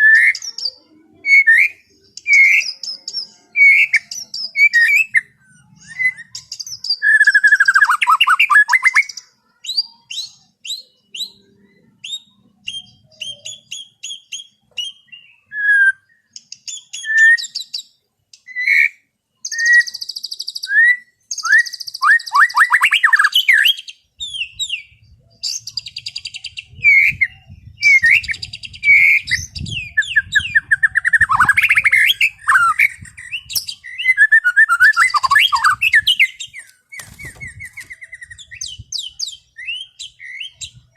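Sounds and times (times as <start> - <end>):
bird singing varied whistles: 1.3 - 11.4, 12.0 - 40.9.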